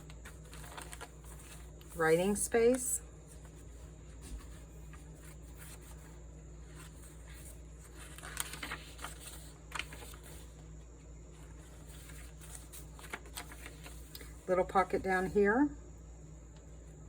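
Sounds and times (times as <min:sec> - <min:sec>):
paper pages rustling: 0:00.0 - 0:15.4.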